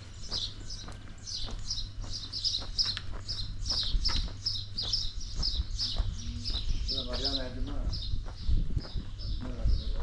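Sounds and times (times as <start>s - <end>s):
small songbird chirping: 0.0s - 10.0s.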